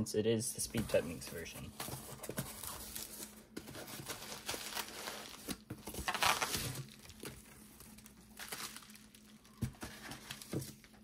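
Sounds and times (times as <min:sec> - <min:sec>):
bubble wrap crinkling: 0:01.8 - 0:11.0.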